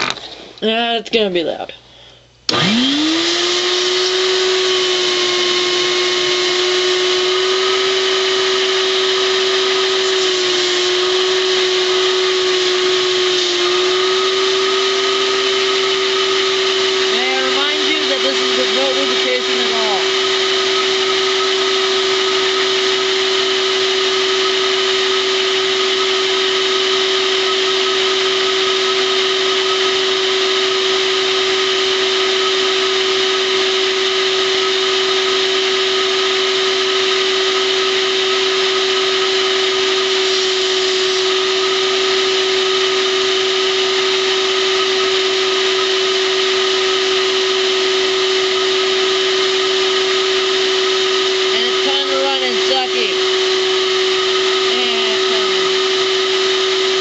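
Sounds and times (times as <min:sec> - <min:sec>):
vacuum cleaner running: 0:02.5 - 0:57.0.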